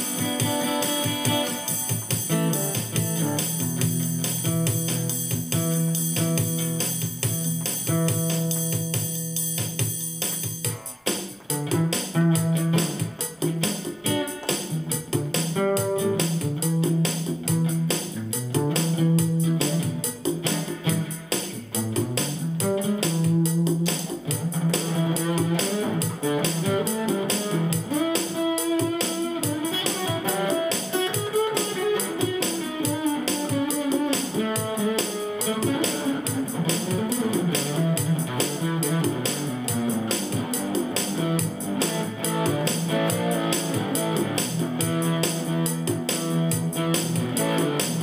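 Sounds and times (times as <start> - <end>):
overdriven acoustic guitar: 0.0 - 48.0
steady beat: 0.0 - 48.0.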